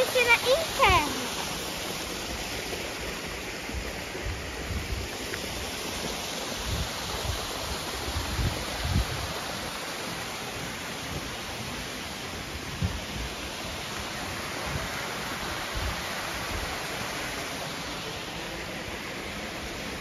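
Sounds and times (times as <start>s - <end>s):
waterfall splashing into pool: 0.0s - 20.0s.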